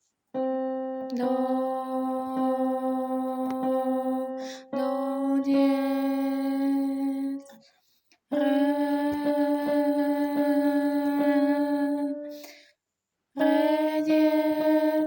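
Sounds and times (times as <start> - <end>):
woman singing long notes: 0.4 - 7.6, 8.3 - 12.6, 13.4 - 15.0.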